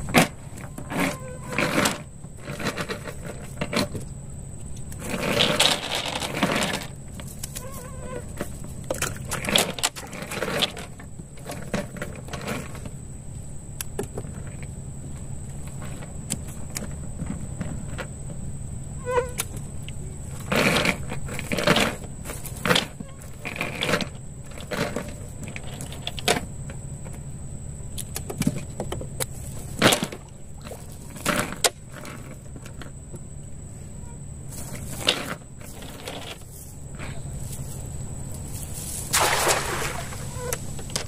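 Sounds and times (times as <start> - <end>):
high insect whine: 0.0 - 41.0.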